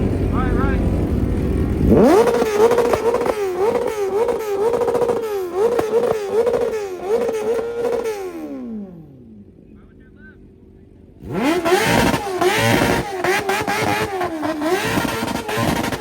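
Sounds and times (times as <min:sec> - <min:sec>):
car engine revving on limiter: 0:00.0 - 0:09.2, 0:11.2 - 0:16.0.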